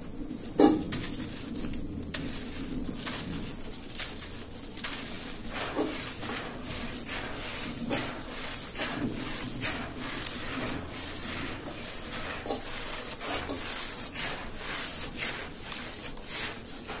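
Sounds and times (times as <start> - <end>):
dirt rustling through fingers: 0.0 - 17.0
dirt clumps crunching: 0.3 - 17.0.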